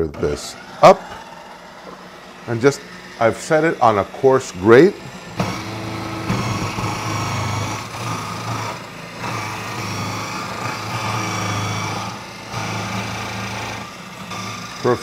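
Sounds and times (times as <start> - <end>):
food processor shredding zucchini: 0.0 - 15.0.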